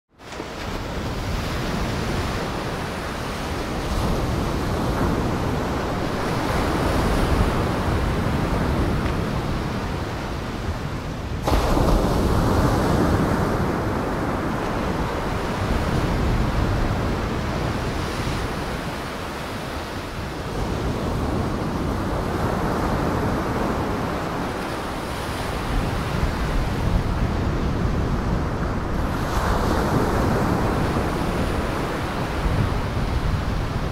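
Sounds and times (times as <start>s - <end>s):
wind: 0.1s - 33.9s
waves breaking: 0.2s - 33.9s.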